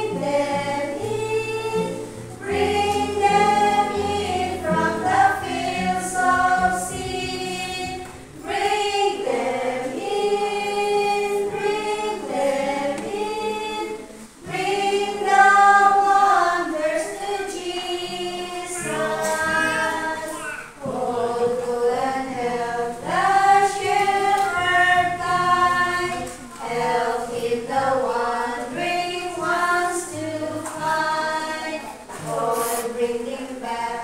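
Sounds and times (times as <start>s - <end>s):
women singing a hymn: 0.0s - 34.0s.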